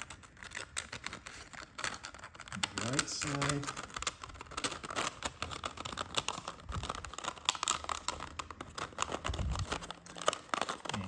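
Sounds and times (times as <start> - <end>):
plastic strips clicking and rustling: 0.0 - 11.0.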